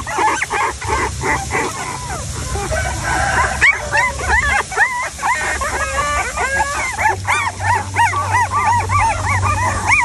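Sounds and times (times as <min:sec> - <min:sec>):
puppies squealing and whining: 0:00.0 - 0:10.0.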